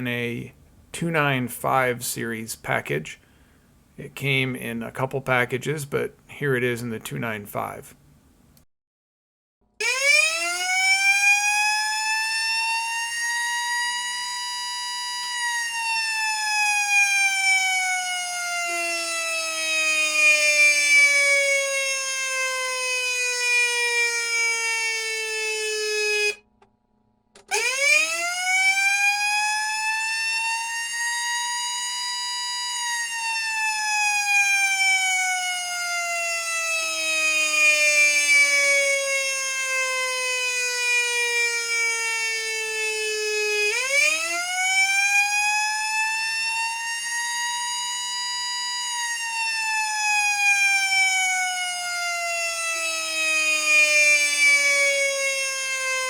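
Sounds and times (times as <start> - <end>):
simulated mechanical siren wail: 9.8 - 26.5, 27.4 - 56.0.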